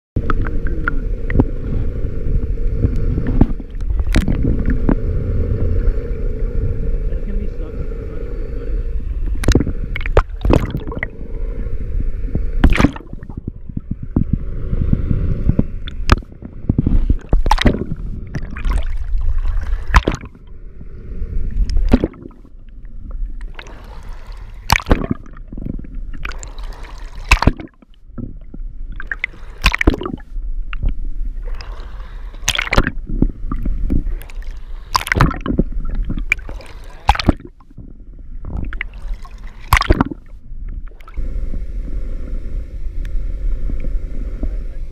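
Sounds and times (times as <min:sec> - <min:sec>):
low rumble: 0:00.2 - 0:44.9
water gurgling and sloshing: 0:00.2 - 0:44.9.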